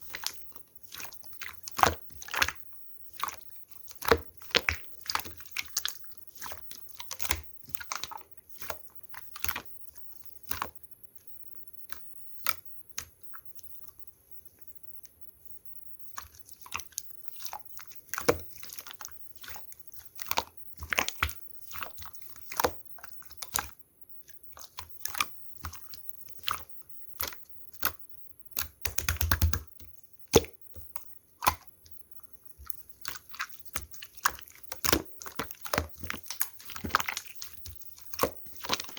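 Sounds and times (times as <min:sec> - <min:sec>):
slime squishing with sticky clicks: 0:00.0 - 0:38.9.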